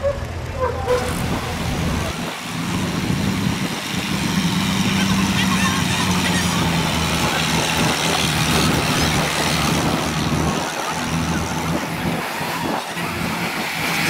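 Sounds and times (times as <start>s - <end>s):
diesel tractor engines running: 0.0s - 14.0s.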